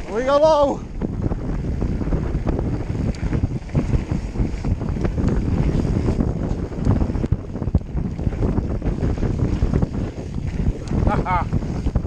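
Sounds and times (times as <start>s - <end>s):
bike frame rattling: 0.0s - 12.0s
bike tyres rumbling: 0.0s - 12.0s
wind buffeting microphone: 0.0s - 12.0s.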